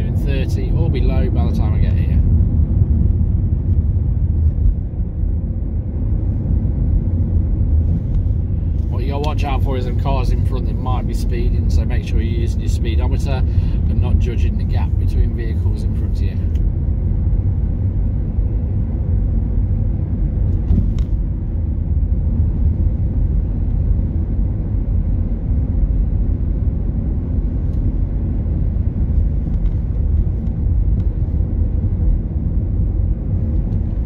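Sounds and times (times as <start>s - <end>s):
car cabin road and engine rumble: 0.0s - 34.0s.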